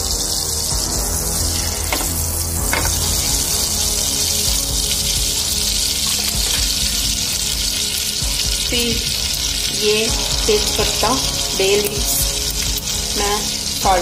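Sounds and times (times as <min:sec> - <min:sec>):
butter and oil sizzling: 0:00.0 - 0:14.0
sharp oil crackles: 0:00.0 - 0:14.0.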